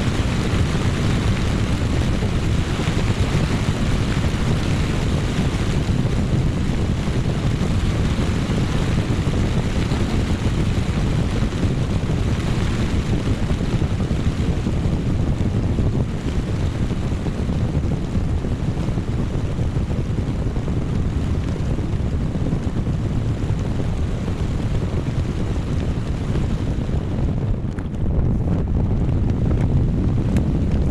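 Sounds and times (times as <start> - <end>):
strong gusting wind: 0.0 - 30.9.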